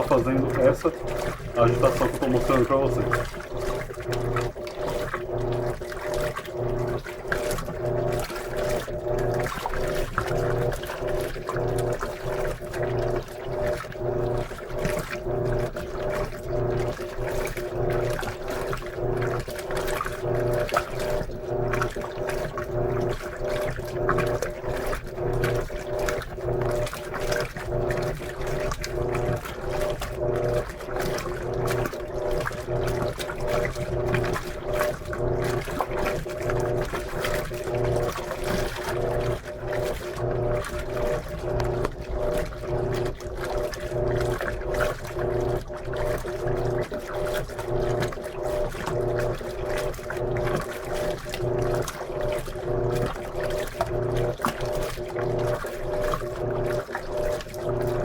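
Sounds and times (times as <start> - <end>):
washing machine motor hum: 0.0 - 58.0
water sloshing: 0.0 - 58.0.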